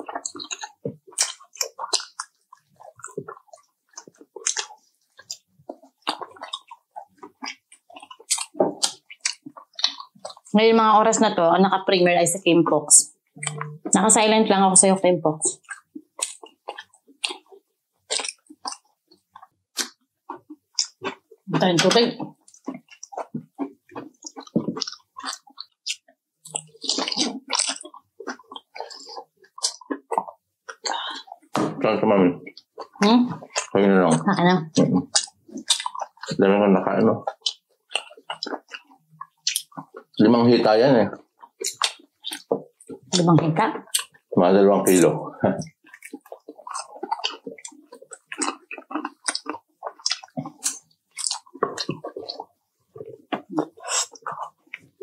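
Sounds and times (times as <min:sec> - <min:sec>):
chewing fried chicken: 0:00.0 - 0:55.0.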